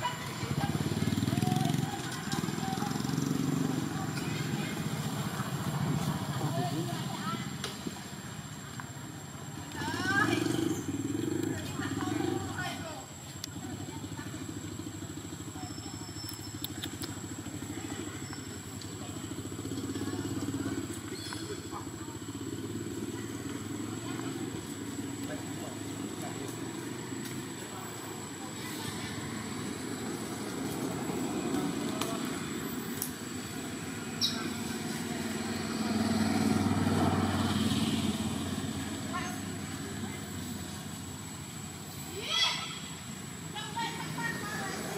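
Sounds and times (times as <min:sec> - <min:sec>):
small engine idling: 0:00.0 - 0:42.1.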